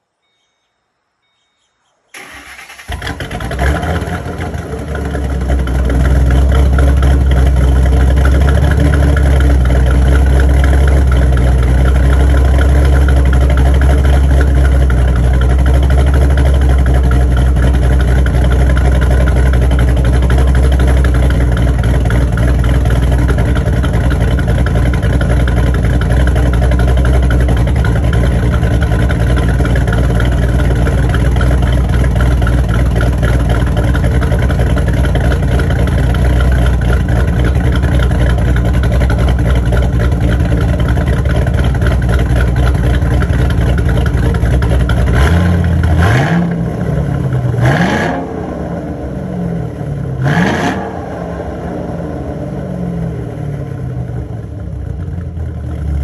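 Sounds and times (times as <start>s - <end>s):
car engine starting and idling: 2.1s - 56.0s.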